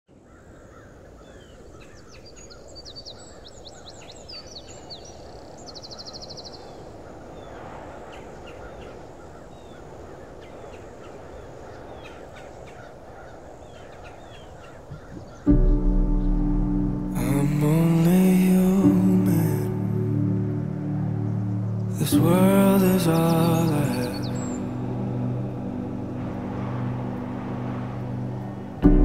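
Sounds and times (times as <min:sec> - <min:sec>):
low outdoor rush: 0:00.1 - 0:29.0
birds chirping and calling: 0:00.2 - 0:29.0.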